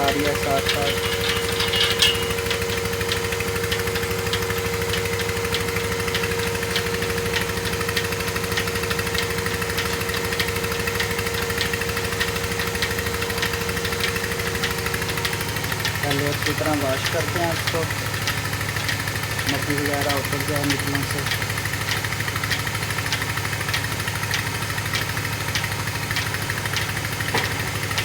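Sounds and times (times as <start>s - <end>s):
milking machine motor hum: 0.0s - 28.0s.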